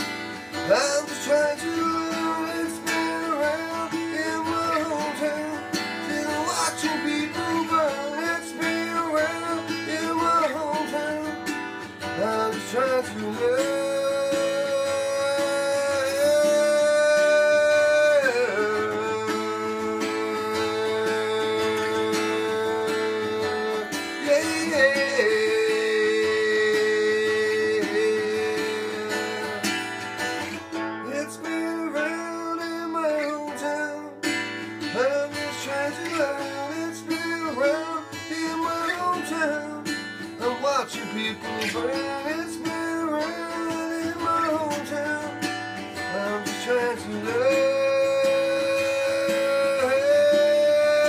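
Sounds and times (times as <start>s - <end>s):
acoustic guitar strumming: 0.0s - 51.0s
man singing: 0.0s - 51.0s.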